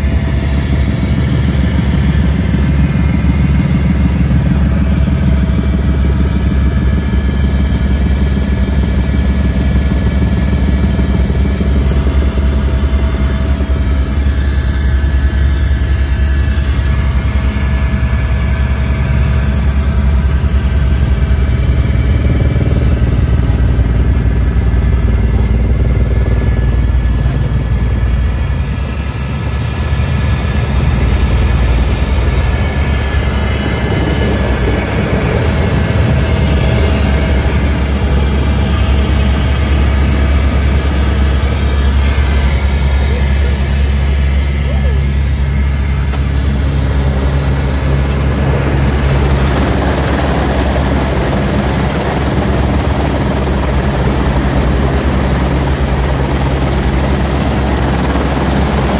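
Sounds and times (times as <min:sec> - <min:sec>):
engine low rumble: 0:00.0 - 0:58.9
helicopter rotor drone: 0:00.0 - 0:58.9.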